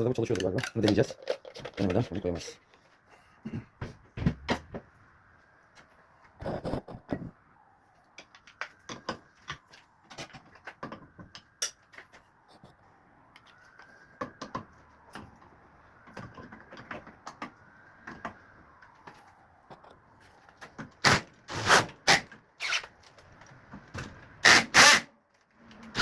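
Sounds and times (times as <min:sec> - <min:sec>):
parts and tools clicking and knocking: 0:00.0 - 0:04.9, 0:08.1 - 0:26.0.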